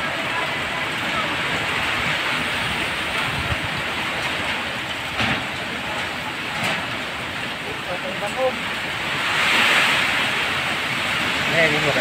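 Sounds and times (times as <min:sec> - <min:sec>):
heavy rain: 0:00.0 - 0:12.0
strong wind: 0:00.0 - 0:12.0.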